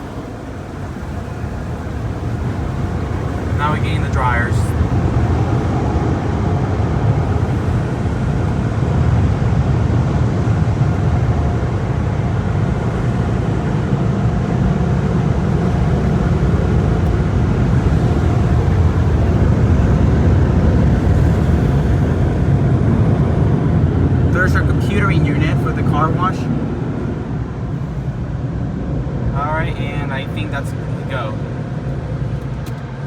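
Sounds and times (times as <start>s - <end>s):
blowers rushing air: 0.0s - 32.4s
faint steady whine: 0.0s - 32.8s.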